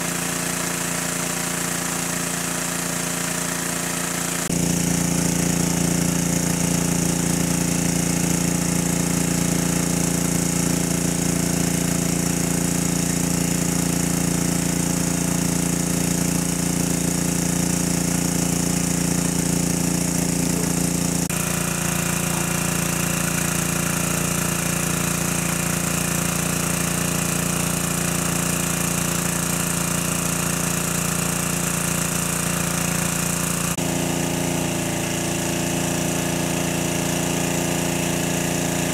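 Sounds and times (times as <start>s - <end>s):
engine-driven water pump running: 0.0s - 38.9s.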